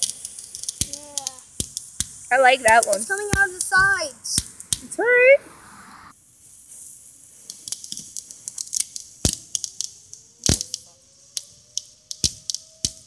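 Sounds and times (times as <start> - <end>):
firework pops and cracks: 0.0 - 5.0, 6.1 - 13.0
firework hiss: 0.0 - 13.0.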